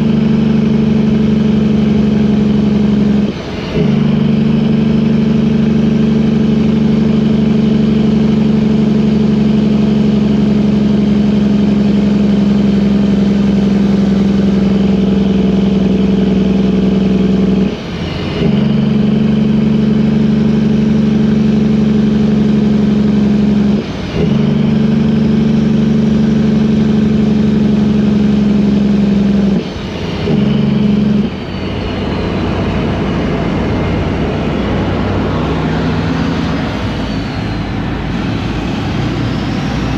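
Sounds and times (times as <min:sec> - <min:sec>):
rough engine sound: 0:00.0 - 0:39.9
vehicle engine running: 0:00.0 - 0:39.9.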